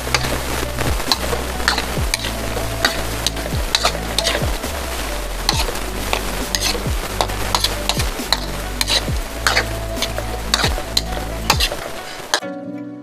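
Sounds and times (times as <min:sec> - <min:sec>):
food sizzling in pan: 0:00.0 - 0:12.4
spatula scraping pan: 0:00.1 - 0:04.8, 0:05.4 - 0:12.4.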